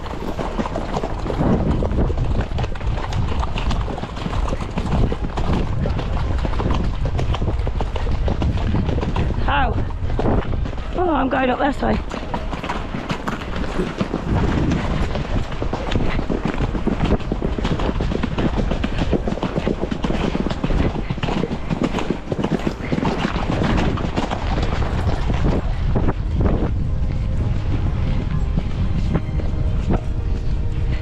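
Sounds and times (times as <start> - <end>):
galloping horse hoofbeats: 0.0 - 31.0
wind noise on microphone: 0.0 - 31.0.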